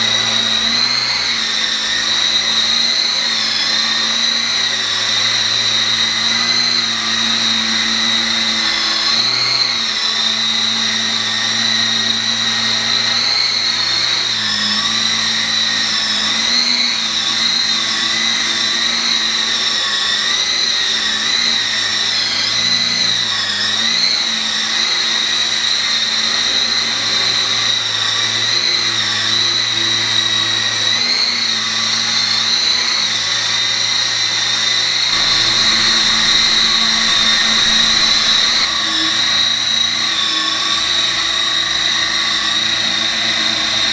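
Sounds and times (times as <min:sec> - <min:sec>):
toy helicopter motors whining: 0:00.0 - 0:43.9.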